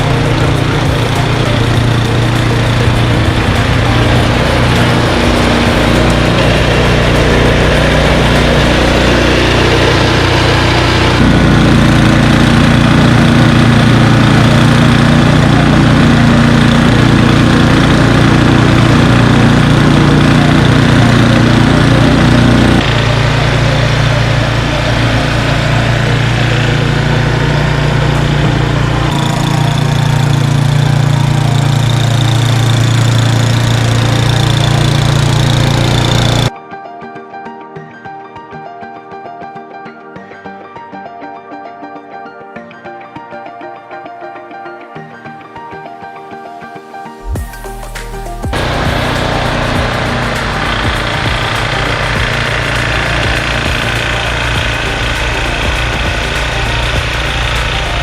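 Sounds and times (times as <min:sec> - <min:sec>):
snow blower engine running: 0:00.0 - 0:36.5, 0:47.8 - 0:58.0.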